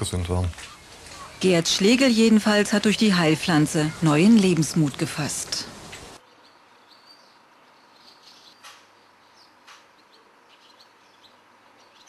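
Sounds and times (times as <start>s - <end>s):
outdoor hiss: 0.0s - 10.0s
faint bird chirps: 0.5s - 12.0s.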